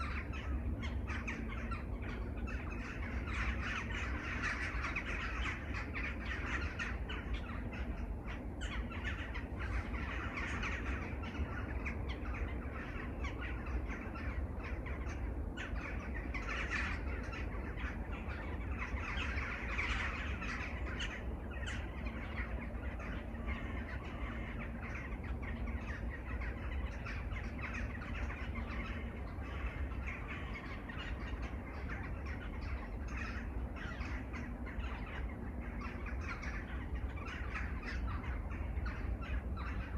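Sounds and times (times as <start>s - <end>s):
crows cawing: 0.0s - 39.9s
low steady rumble: 0.0s - 39.9s.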